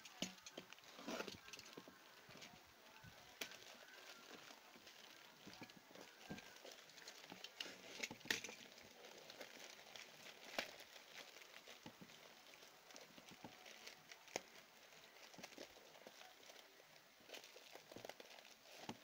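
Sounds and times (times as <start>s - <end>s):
sharp plastic crackles: 0.0s - 19.0s
plastic bag crinkling and tearing: 0.1s - 19.0s.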